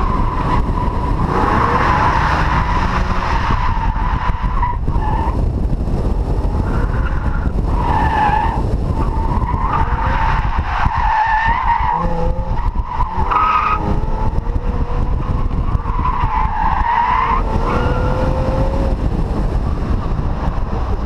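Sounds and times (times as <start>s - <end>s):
wind noise on camera: 0.0s - 21.0s.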